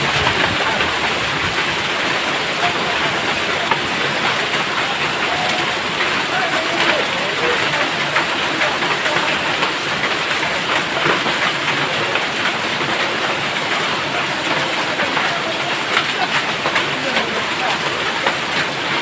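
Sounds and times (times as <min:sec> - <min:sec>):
heavy rain on hard surface: 0:00.0 - 0:19.0.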